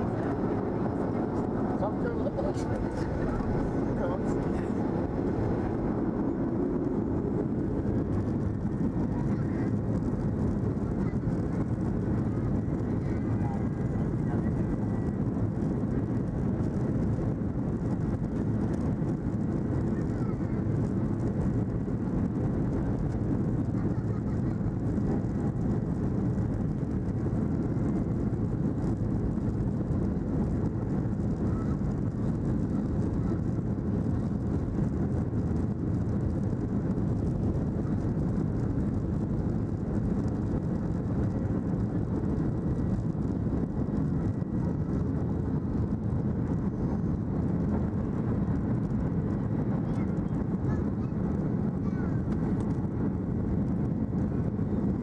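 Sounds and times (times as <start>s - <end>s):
jet engines at takeoff thrust: 0.0s - 55.0s.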